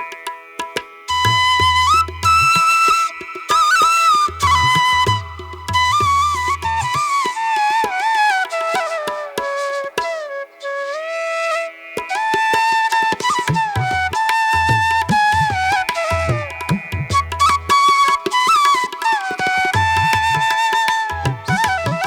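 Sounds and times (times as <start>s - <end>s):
light percussion: 0.0s - 10.6s, 11.4s - 22.0s
flute melody: 1.1s - 22.0s.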